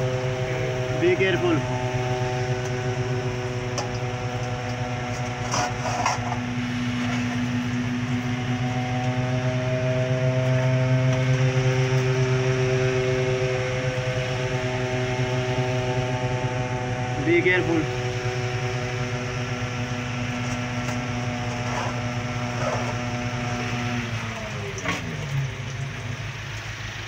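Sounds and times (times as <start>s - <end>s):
small engine running steadily: 0.0s - 27.0s.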